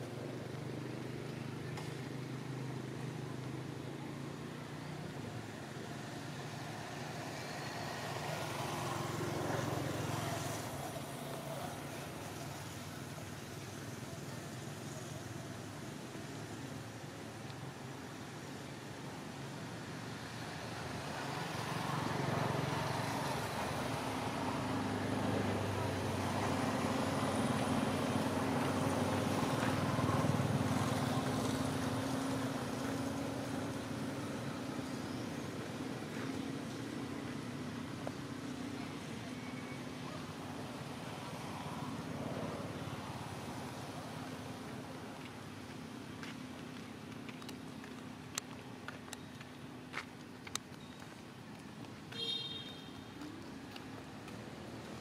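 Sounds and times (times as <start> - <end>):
vehicle engine hum passing: 0.0 - 50.8.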